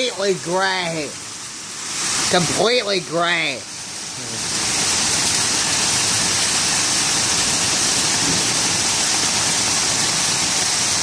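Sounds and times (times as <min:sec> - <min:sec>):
hail and heavy rain: 0:00.0 - 0:11.0.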